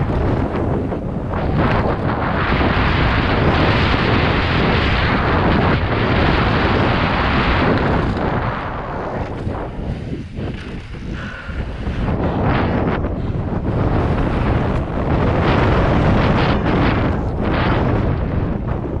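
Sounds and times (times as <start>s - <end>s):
mountain bike rattling over dirt: 0.0s - 19.0s
wind buffeting microphone: 0.0s - 19.0s.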